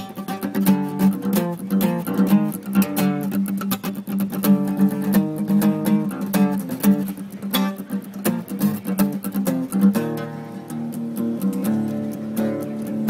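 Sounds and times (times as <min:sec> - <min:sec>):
acoustic guitar plucked: 0:00.0 - 0:13.0.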